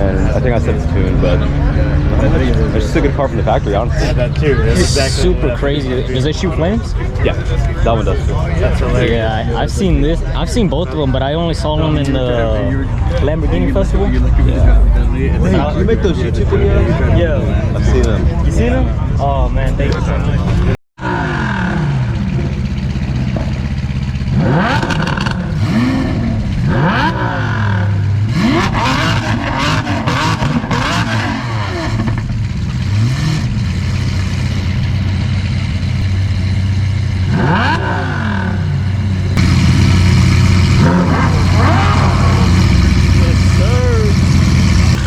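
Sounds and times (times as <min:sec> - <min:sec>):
car engine revving: 0:00.0 - 0:18.3, 0:20.1 - 0:45.0
car engine idling: 0:00.0 - 0:45.0.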